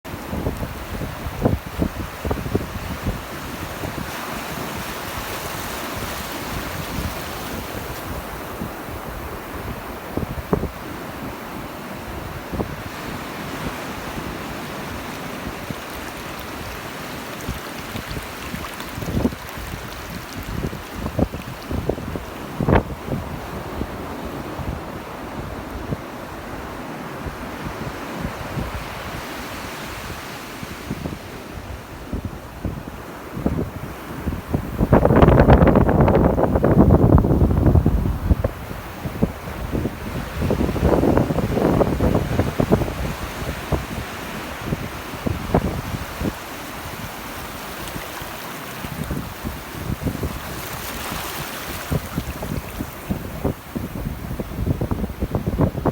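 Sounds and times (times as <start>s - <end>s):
sea surf washing onto beach: 0.1s - 55.9s
wind buffeting microphone: 0.1s - 55.9s.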